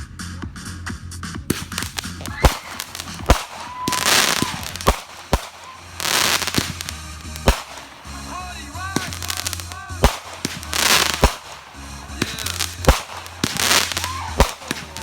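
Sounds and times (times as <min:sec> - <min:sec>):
fireworks bangs: 0:00.0 - 0:15.0
fireworks crackling hiss: 0:00.0 - 0:15.0
fireworks whistling: 0:01.5 - 0:15.0.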